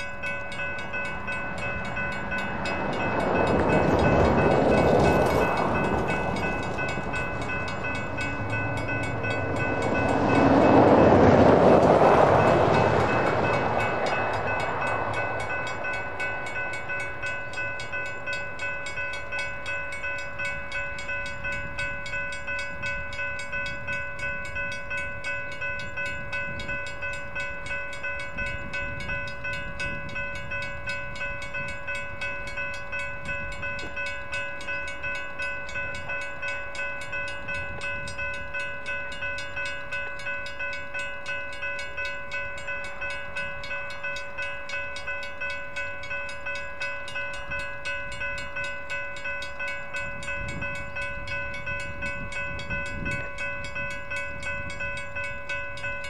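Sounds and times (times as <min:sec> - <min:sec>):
crossing signal bells ringing: 0:00.0 - 0:56.0.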